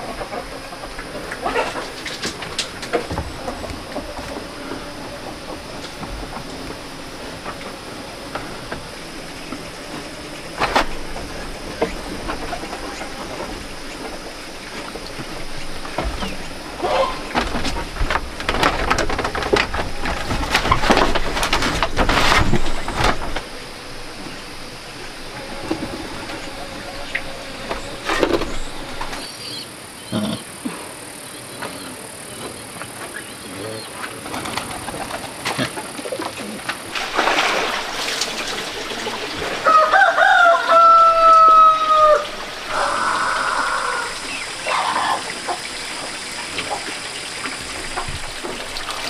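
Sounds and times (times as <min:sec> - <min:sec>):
pigs shifting in pen: 0:00.0 - 0:29.3, 0:31.5 - 0:49.0
insects droning: 0:00.0 - 0:49.0
steady hiss: 0:00.0 - 0:49.0.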